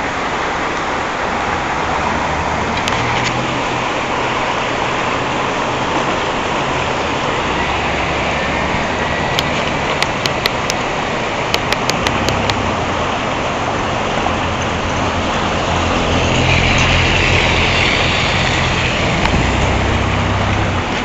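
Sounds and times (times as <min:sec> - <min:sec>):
fast-flowing river rushing: 0:00.0 - 0:21.0.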